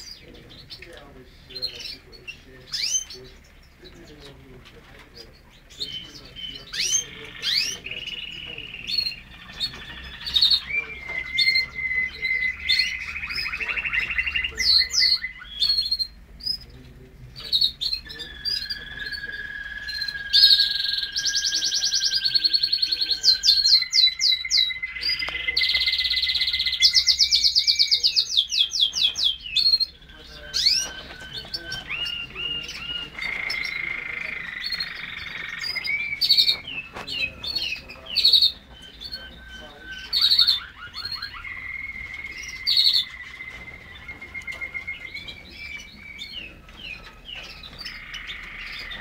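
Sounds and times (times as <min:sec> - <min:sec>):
canaries singing trills and whistles: 0:00.0 - 0:49.0.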